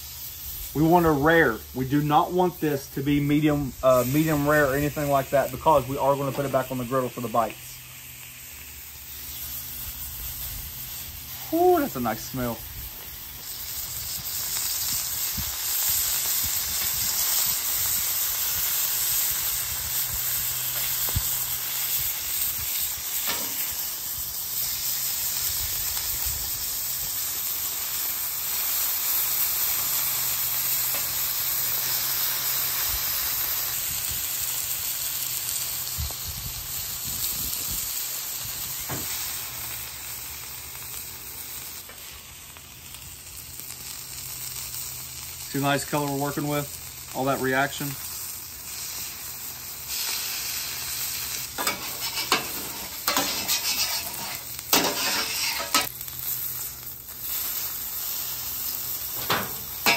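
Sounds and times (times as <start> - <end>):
meat sizzling on a griddle: 0.0 - 59.9.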